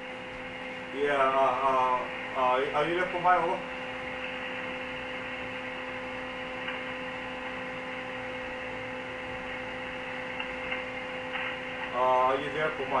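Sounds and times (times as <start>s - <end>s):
two-way radio electrical hum: 0.0s - 13.0s
faint radio hiss: 0.9s - 13.0s.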